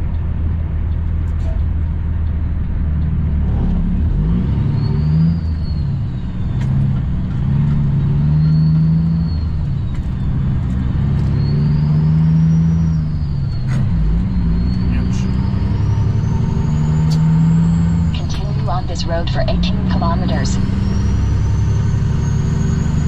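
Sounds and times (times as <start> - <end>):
truck diesel engine accelerating: 0.0 - 23.0.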